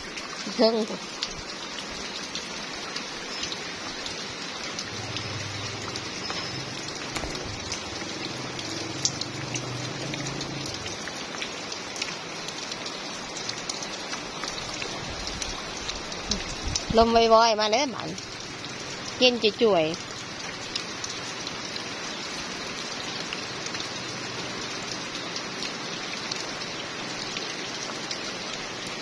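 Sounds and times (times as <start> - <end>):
rain falling on wet ground: 0.0 - 29.0.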